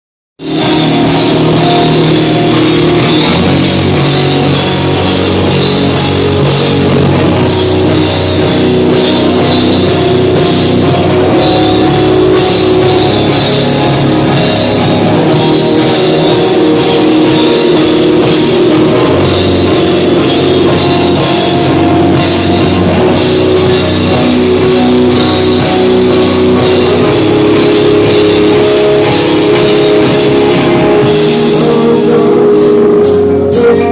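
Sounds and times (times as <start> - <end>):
live rock band playing: 0.4 - 33.9.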